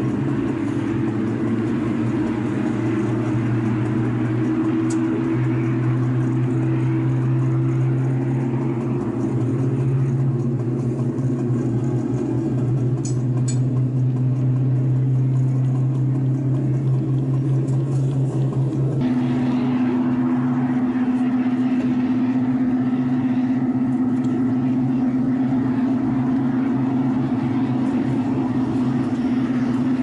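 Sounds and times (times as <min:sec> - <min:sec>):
wheels rattling on rails: 0:00.0 - 0:30.0.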